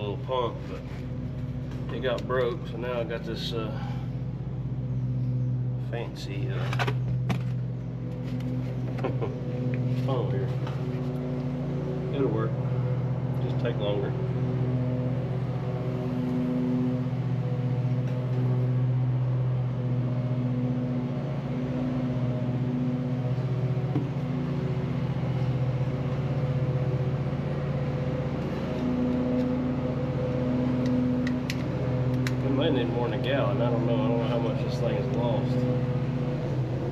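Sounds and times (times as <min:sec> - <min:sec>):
machine hum: 0:00.0 - 0:36.9.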